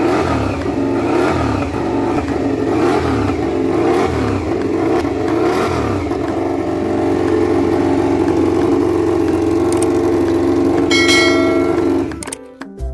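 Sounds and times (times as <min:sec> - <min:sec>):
racing motorcycle engines droning: 0:00.0 - 0:12.4.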